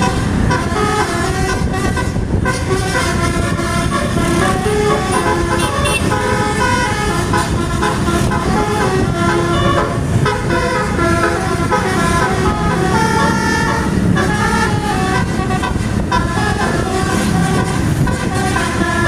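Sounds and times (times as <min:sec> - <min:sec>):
bus rumbling: 0:00.0 - 0:19.0
multi-tone bus horn melody: 0:00.0 - 0:19.0.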